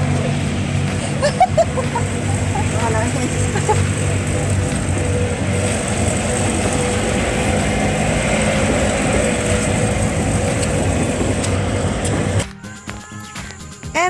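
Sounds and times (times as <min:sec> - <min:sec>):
car engine running: 0:00.0 - 0:14.0
road and wind noise: 0:00.0 - 0:14.0.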